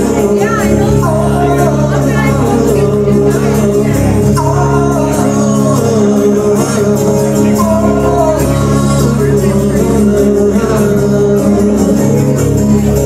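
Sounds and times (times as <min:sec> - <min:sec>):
amplified acoustic guitar chords: 0:00.0 - 0:13.0
person singing: 0:00.0 - 0:13.0.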